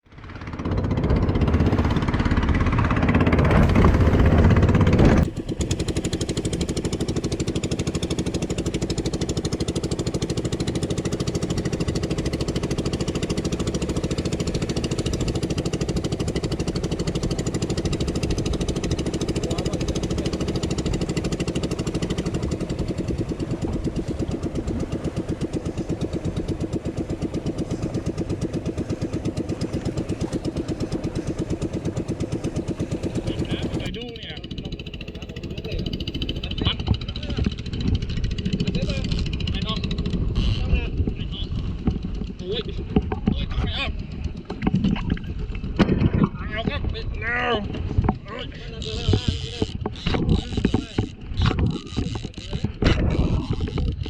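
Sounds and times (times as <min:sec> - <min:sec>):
boat engine chugging: 0:00.0 - 0:54.0.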